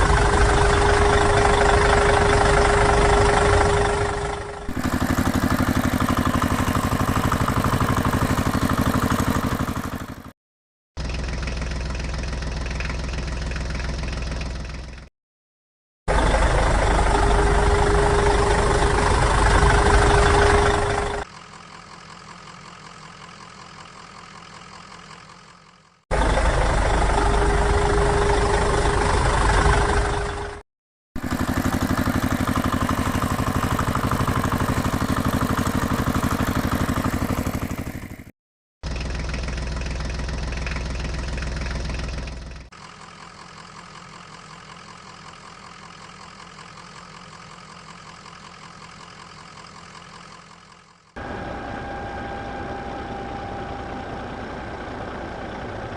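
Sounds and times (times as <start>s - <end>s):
engine running and idling: 0.0s - 10.4s, 11.0s - 15.1s, 16.1s - 30.6s, 31.2s - 55.9s.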